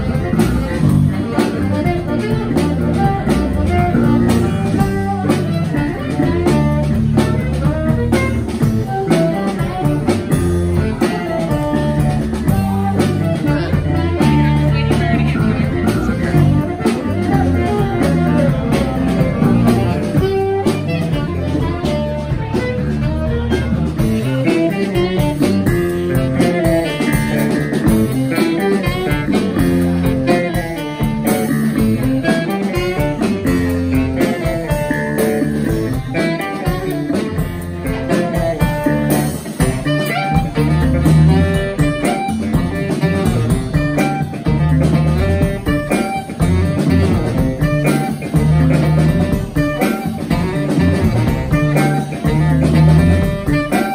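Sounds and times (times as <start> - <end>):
drum kit: 0.0 - 53.9
electric bass line: 0.0 - 53.9
saxophone: 0.0 - 53.9.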